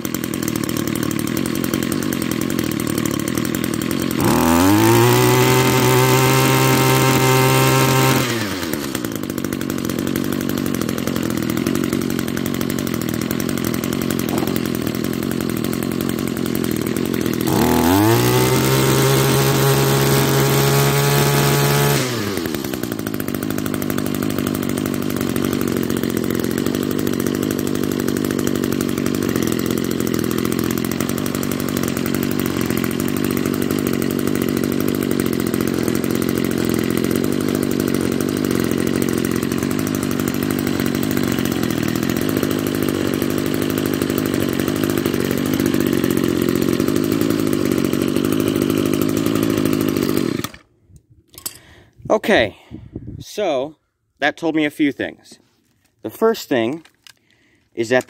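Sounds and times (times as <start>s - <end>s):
string trimmer engine running: 0.0s - 52.0s, 55.6s - 58.0s.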